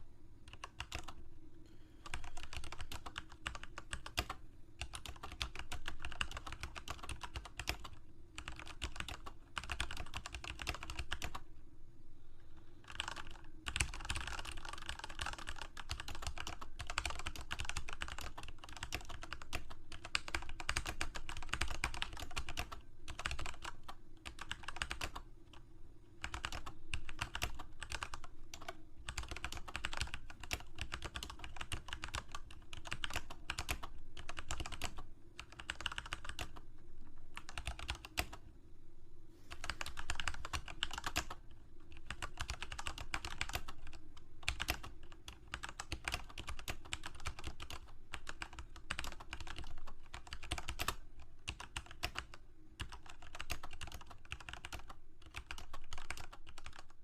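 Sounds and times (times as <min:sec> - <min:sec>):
typing on computer keyboard: 0:00.5 - 0:01.2, 0:02.0 - 0:11.4, 0:12.8 - 0:25.2, 0:26.2 - 0:36.6, 0:37.4 - 0:38.4, 0:39.6 - 0:57.0.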